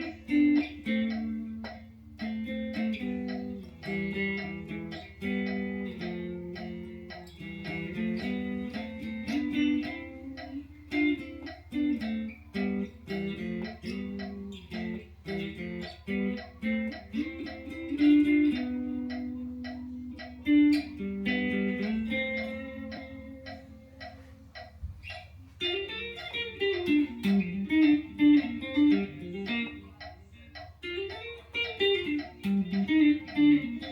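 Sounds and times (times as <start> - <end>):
guitar picked note by note: 0.0 - 33.9.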